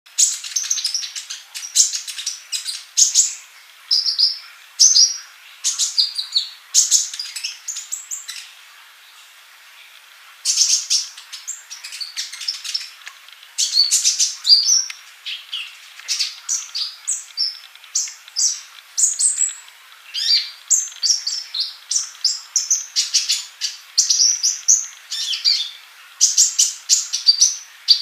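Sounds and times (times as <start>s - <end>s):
bird chirping and trilling: 0.1s - 8.6s, 10.4s - 13.0s, 13.6s - 28.0s.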